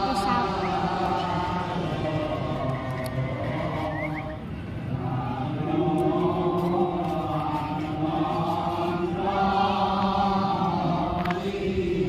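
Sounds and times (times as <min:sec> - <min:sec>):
group chanting: 0:00.0 - 0:04.1, 0:05.0 - 0:12.0.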